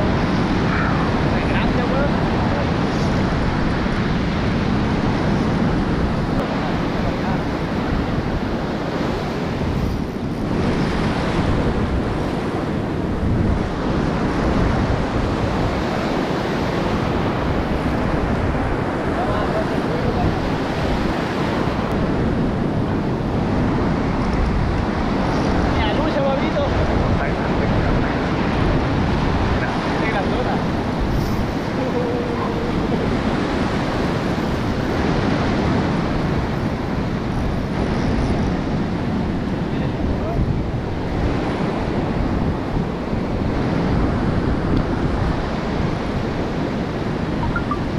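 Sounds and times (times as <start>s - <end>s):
ocean surf breaking: 0.0s - 47.9s
wind rumbling on microphone: 0.0s - 47.9s.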